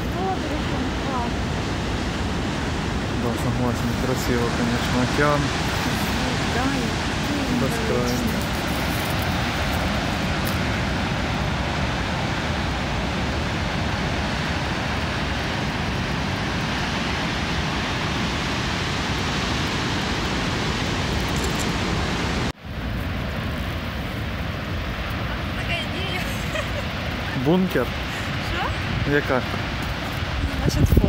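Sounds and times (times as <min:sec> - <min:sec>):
heavy surf breaking on rocks: 0:00.0 - 0:22.5, 0:23.2 - 0:31.0
wind on microphone: 0:00.0 - 0:31.0.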